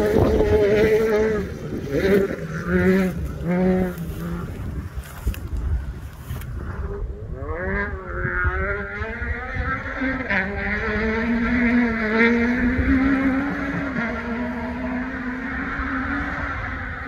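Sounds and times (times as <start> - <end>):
rally car engine revving high: 0.0 - 17.0.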